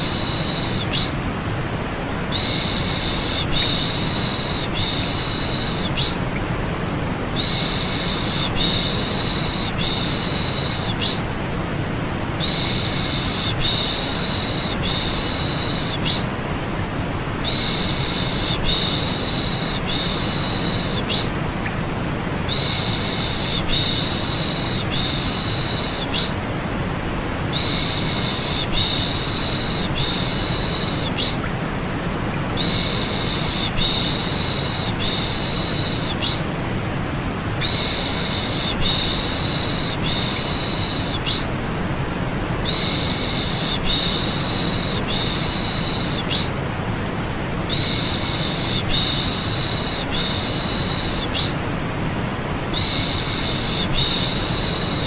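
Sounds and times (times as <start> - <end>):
white noise rush: 0.0 - 55.0.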